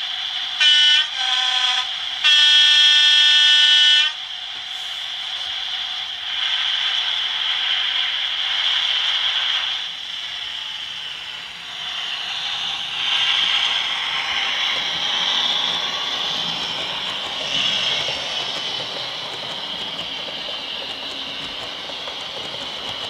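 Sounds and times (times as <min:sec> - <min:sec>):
model train running on track: 0:00.0 - 0:23.0.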